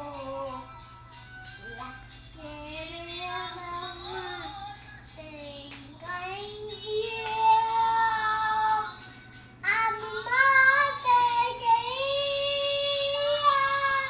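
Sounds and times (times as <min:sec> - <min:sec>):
child singing: 0:01.6 - 0:09.0, 0:09.6 - 0:14.0.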